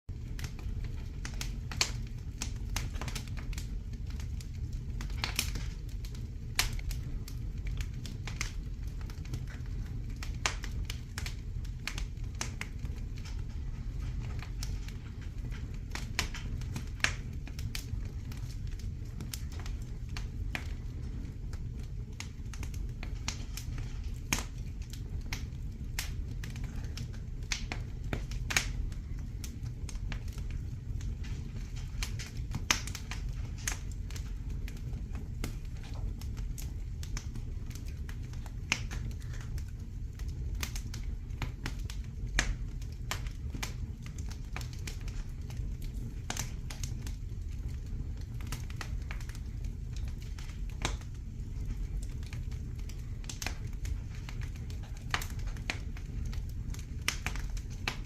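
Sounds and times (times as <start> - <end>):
fire crackling: 0.1 - 58.0
low rumble: 0.1 - 58.0
sharp pops of fire: 0.1 - 58.0.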